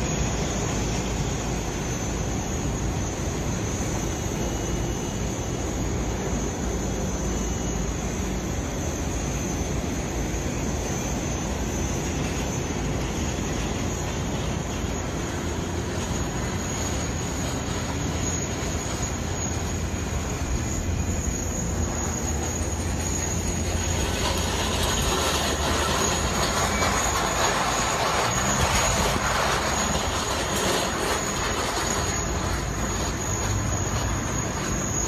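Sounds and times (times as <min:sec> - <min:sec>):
jet airliner rushing hum: 0:00.0 - 0:35.0
thin high whine: 0:00.0 - 0:35.0.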